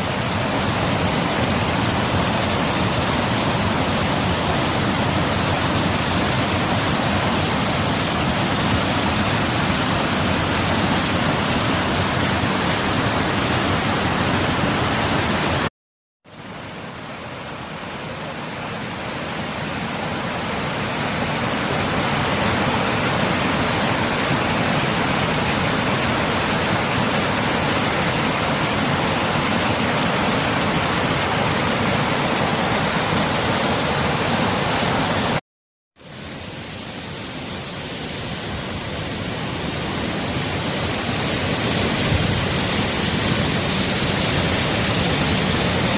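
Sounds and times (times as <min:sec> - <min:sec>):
stream rushing over boulders: 0:00.0 - 0:15.7, 0:16.3 - 0:35.4, 0:36.0 - 0:45.9.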